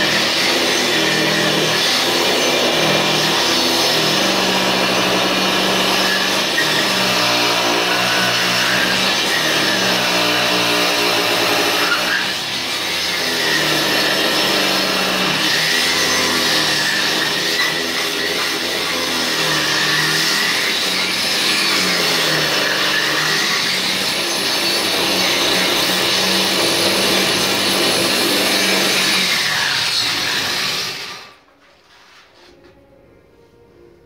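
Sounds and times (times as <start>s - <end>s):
angle grinder grinding floor: 0.0s - 32.6s.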